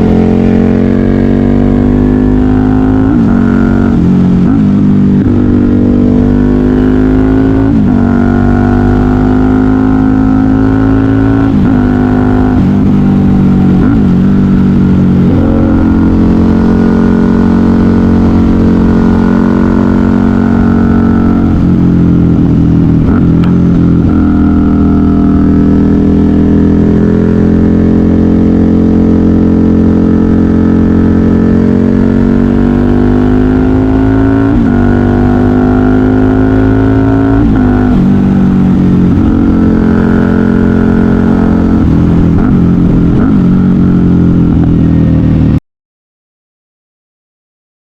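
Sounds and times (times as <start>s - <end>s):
motorcycle engine revving: 0.0s - 45.6s.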